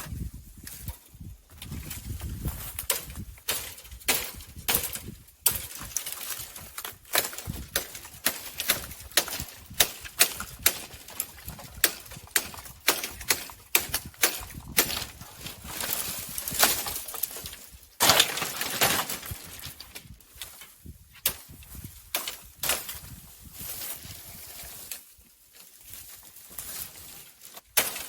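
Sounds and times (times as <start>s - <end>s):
footsteps on rough ground: 0.0s - 28.0s.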